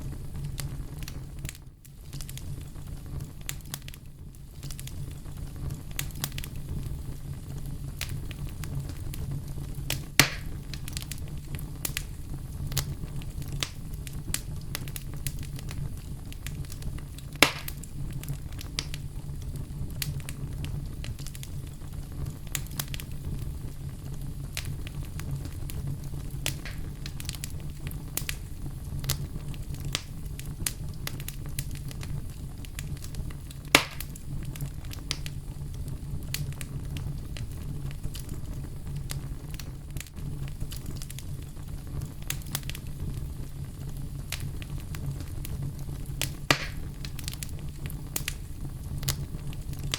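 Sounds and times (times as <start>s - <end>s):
campfire rumble and crackling: 0.0s - 49.9s
loud fire pops: 0.0s - 49.9s.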